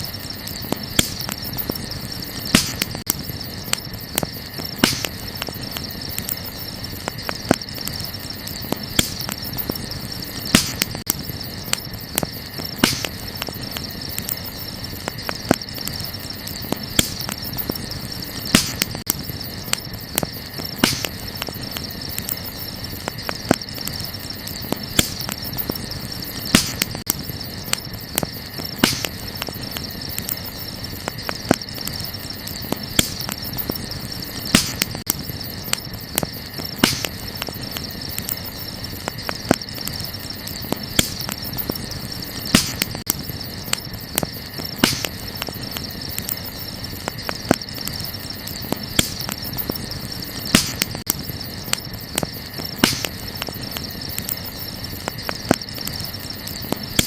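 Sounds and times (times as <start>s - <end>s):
campfire crackling: 0.0s - 57.0s
crickets chirping: 0.0s - 57.0s.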